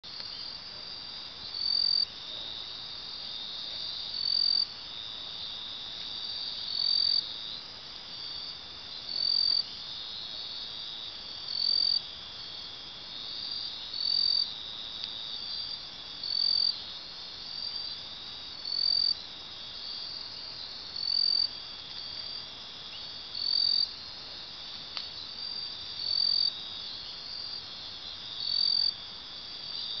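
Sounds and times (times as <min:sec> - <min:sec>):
crickets trilling: 0:00.1 - 0:30.0
loud high cricket chirp: 0:00.2 - 0:30.0.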